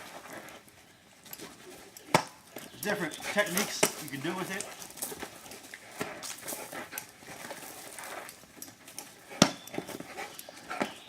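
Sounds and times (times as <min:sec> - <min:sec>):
dog paws scuffing on ground: 0:00.0 - 0:11.0.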